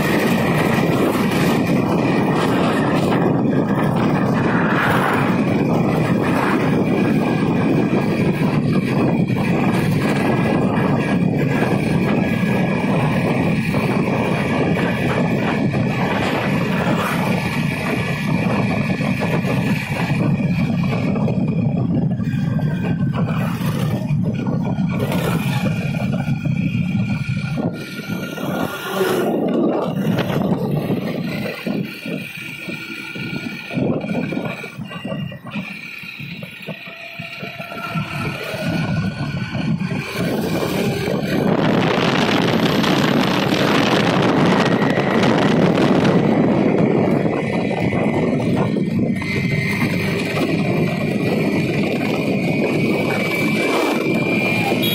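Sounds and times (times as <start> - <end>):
motorcycle running: 0.0 - 54.9
wind rush on microphone: 0.0 - 54.9.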